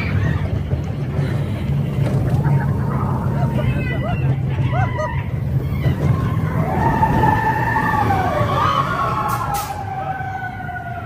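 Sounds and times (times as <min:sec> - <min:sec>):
roller coaster rumbling on track: 0:00.0 - 0:11.0.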